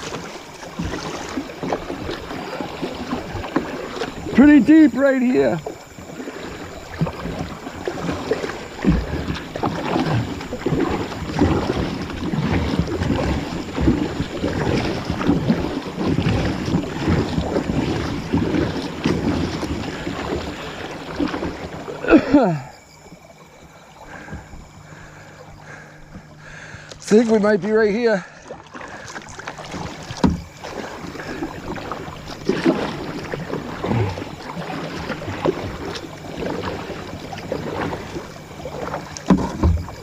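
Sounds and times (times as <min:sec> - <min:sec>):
water splashing around kayak: 0:00.0 - 0:40.0.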